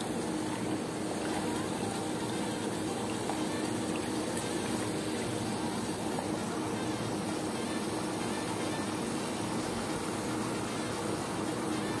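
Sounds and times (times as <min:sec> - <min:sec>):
water churning and bubbling: 0:00.0 - 0:12.0.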